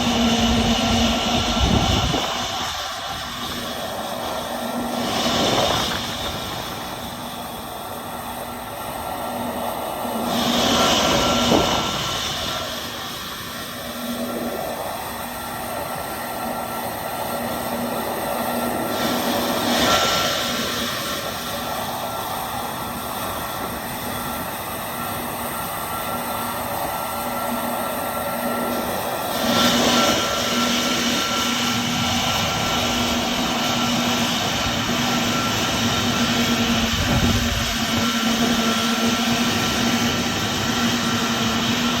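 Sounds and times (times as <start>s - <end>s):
jet engines humming and whining: 0.0s - 42.0s.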